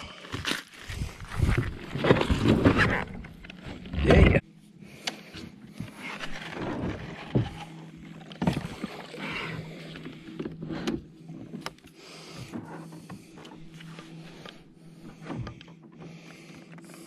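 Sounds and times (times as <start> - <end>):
pedal drive humming: 1.2 - 17.0
water swishing along hull: 3.0 - 17.0.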